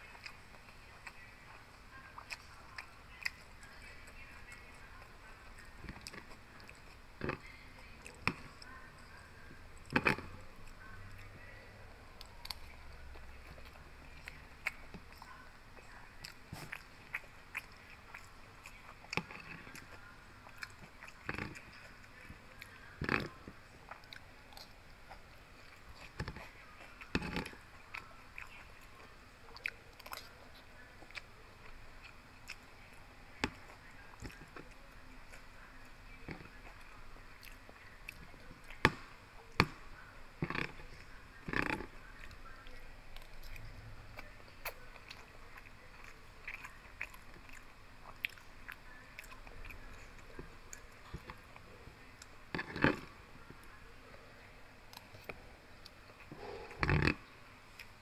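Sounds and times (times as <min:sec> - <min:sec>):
close-miked chewing: 0:00.0 - 0:58.0.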